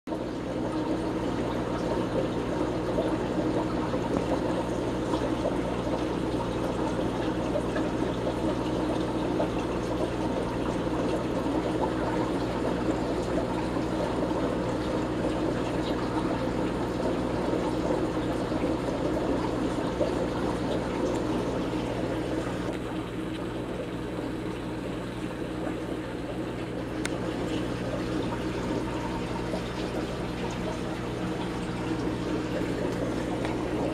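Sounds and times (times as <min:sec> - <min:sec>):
aquarium water trickling: 0:00.1 - 0:33.9
low electric pump hum: 0:00.1 - 0:33.9.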